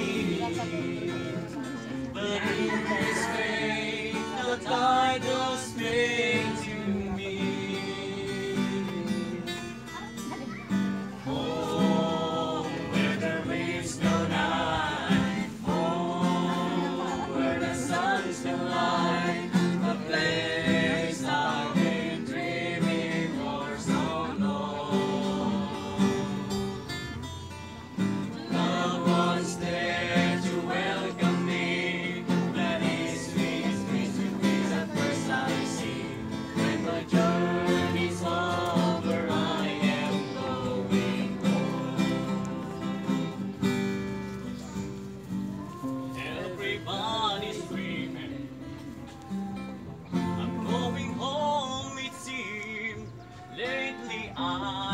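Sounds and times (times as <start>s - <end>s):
men singing together: 0.0s - 9.8s, 11.2s - 27.2s, 28.3s - 43.6s, 45.7s - 54.9s
strummed acoustic guitar: 0.0s - 54.9s.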